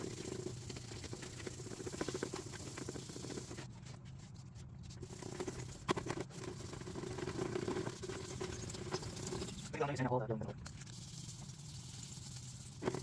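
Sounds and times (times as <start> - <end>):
hand sanding plastic lens: 0.0 - 9.7, 10.6 - 13.0.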